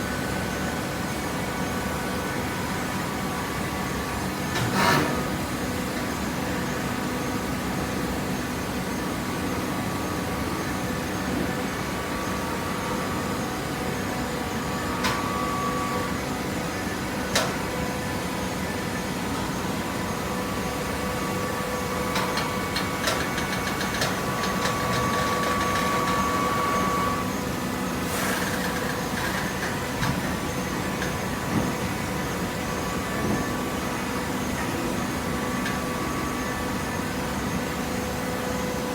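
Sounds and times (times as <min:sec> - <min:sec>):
baler motor and pump humming: 0:00.0 - 0:38.9.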